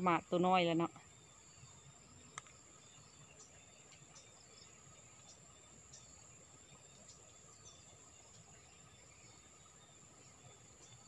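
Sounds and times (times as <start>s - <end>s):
high insect drone: 0.0s - 11.0s
faint chirps: 0.1s - 11.0s.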